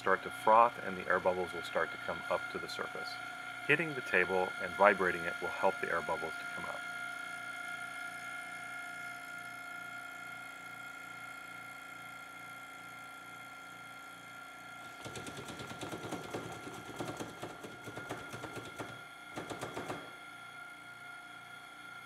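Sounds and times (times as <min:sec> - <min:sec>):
vacuum pump humming: 0:00.0 - 0:22.0.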